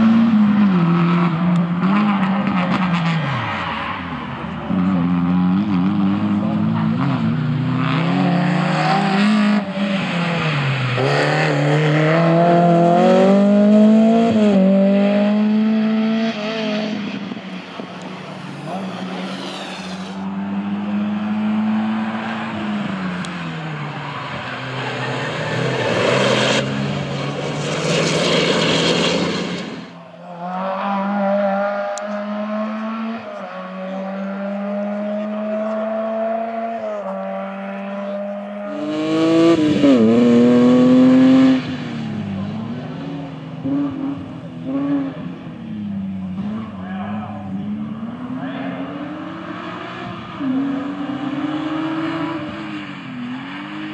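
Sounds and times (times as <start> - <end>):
rally cars racing past: 0.0 - 53.9.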